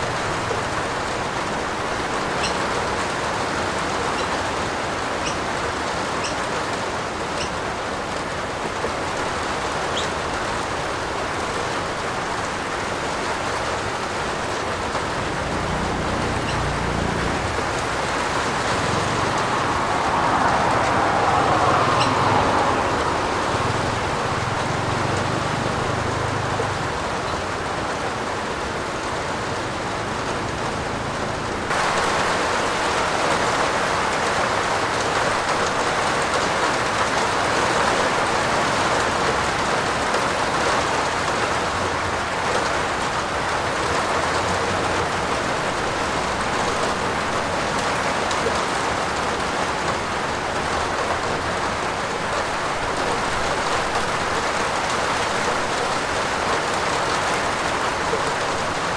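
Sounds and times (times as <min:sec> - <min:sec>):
rain falling on a roof: 0:00.0 - 0:58.9.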